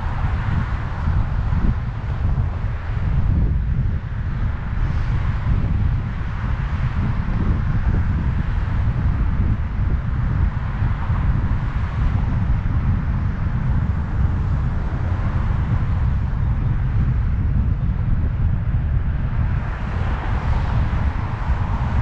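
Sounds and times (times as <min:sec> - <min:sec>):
road and traffic noise: 0:00.0 - 0:22.0
wind buffeting microphone: 0:00.0 - 0:22.0.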